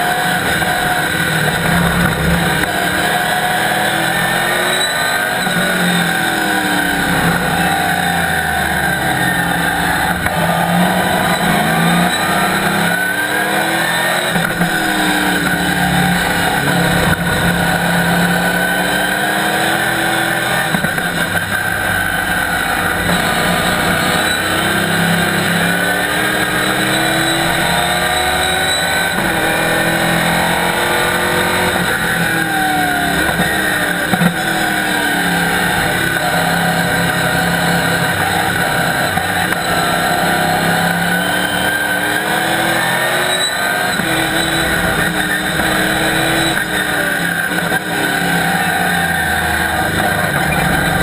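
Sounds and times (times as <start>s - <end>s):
race car engine revving: 0.0s - 51.0s.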